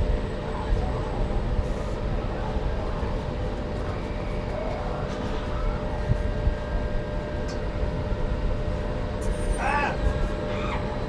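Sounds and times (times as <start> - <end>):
faint hum: 0.0 - 11.0
low ambient rumble: 0.0 - 11.0.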